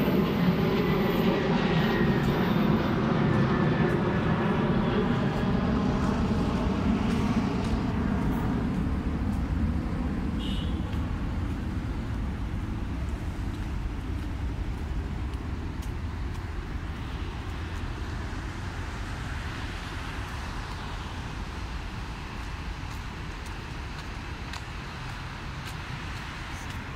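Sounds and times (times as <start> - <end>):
passing engine hum: 0.0 - 26.9
road traffic rumble: 0.0 - 26.9.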